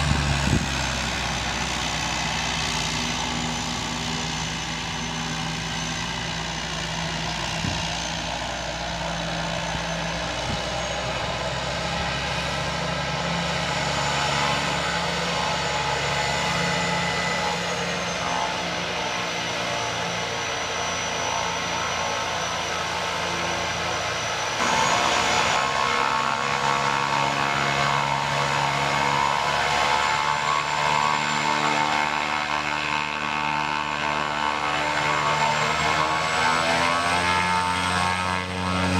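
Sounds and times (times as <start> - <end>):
propeller: 0.0 - 38.9
turboprop engine turbine whine: 0.0 - 38.9.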